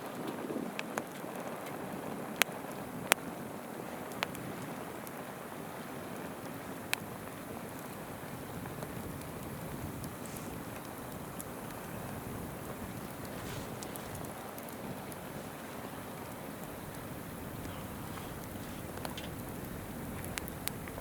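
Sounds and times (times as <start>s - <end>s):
campfire crackling: 0.1s - 21.0s
fire popping: 0.2s - 21.0s
river babbling: 2.6s - 21.0s.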